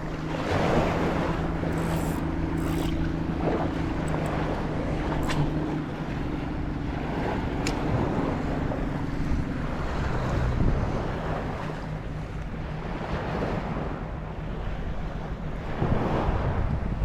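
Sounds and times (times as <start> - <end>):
boat engine hum: 0.0 - 17.0
sea waves washing on shore: 0.0 - 17.0
wind buffeting microphone: 0.0 - 17.0.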